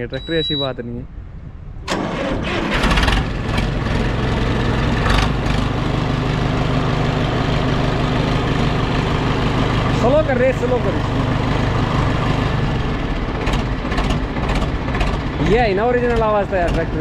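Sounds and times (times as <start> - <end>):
diesel tractor engine starting: 1.8 - 17.0.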